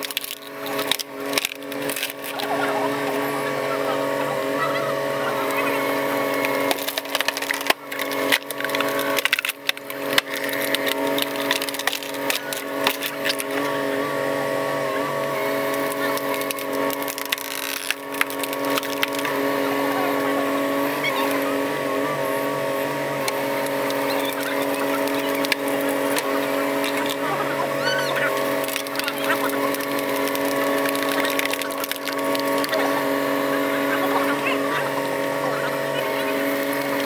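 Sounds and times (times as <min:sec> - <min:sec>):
wood cracking and splintering: 0:00.0 - 0:02.9, 0:05.5 - 0:13.8, 0:15.4 - 0:21.5, 0:23.1 - 0:37.0
heavy machine engine running: 0:00.0 - 0:37.0.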